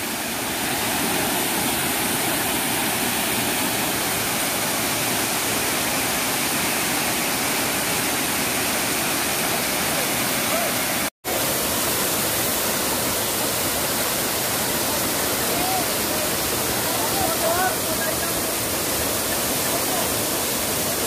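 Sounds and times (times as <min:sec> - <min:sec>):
waterfall pouring into pool: 0:00.0 - 0:21.0.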